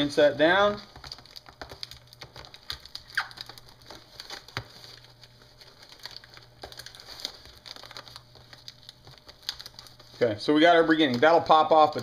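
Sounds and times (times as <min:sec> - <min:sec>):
cardboard and tape crackling: 0:00.0 - 0:12.0.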